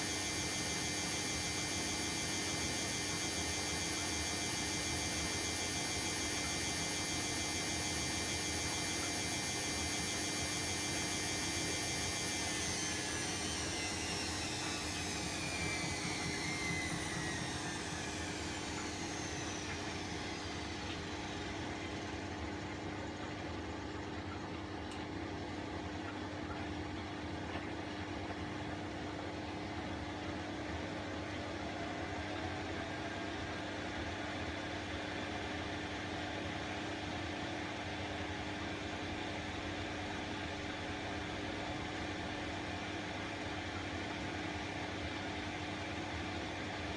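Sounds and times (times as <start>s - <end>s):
washing machine low hum: 0.0s - 46.9s
washing machine motor whine: 0.0s - 46.9s.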